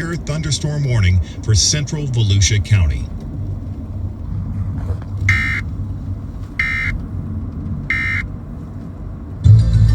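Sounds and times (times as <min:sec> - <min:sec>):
low rumble: 0:00.0 - 0:09.9.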